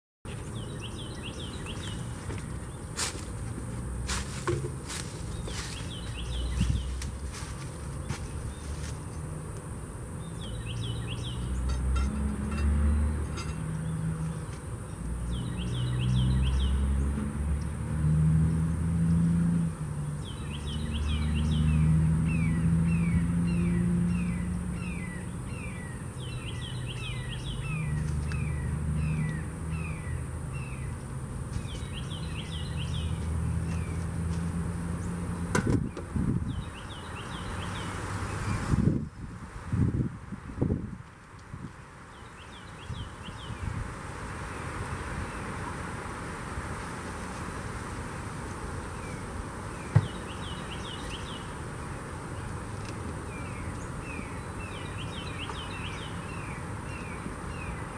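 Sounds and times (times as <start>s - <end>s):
songbird chirping: 0.3s - 39.3s, 41.3s - 43.8s, 48.8s - 57.9s.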